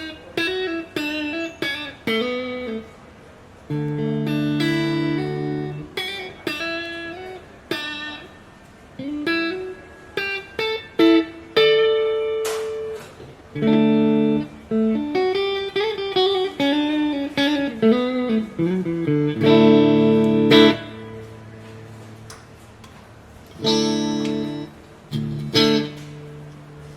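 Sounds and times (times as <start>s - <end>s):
electric guitar playing: 0.0s - 26.9s.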